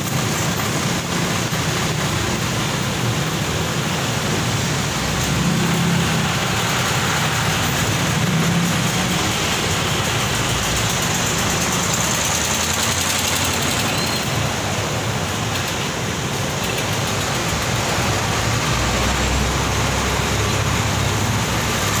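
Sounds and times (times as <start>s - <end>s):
road noise: 0.0s - 22.0s
vehicles passing: 0.0s - 22.0s.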